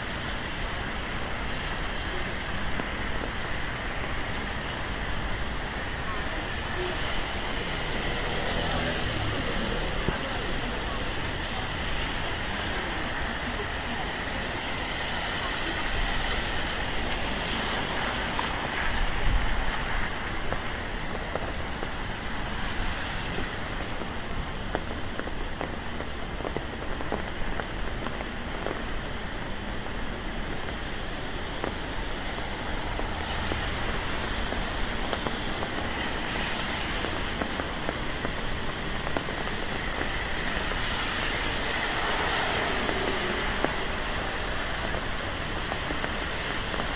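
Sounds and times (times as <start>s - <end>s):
sharp raindrops: 0.0s - 46.9s
steady rain hissing: 0.0s - 46.9s.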